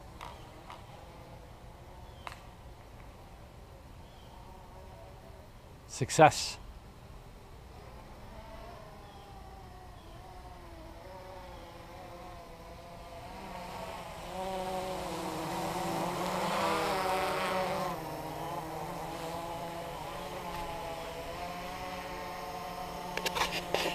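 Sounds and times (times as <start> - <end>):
quadcopter propellers buzzing: 0.0 - 6.6, 7.4 - 23.9.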